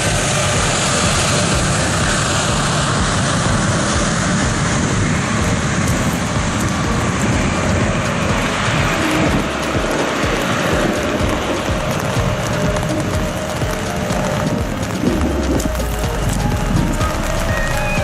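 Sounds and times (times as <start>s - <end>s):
jet engines running: 0.0s - 18.0s
rain: 0.0s - 18.0s
wind: 0.0s - 18.0s.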